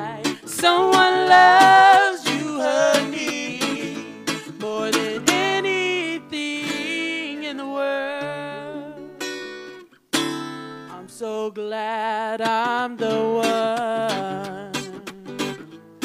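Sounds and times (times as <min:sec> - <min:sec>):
woman singing a slow love song: 0:00.0 - 0:09.2, 0:10.9 - 0:15.4
strummed acoustic guitar: 0:00.0 - 0:16.0.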